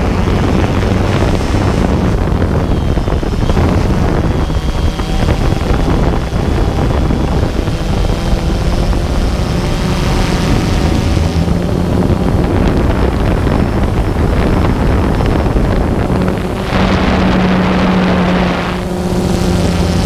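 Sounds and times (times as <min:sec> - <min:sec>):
drone propellers buzzing: 0:00.0 - 0:20.0
wind rushing over microphone: 0:00.0 - 0:20.0.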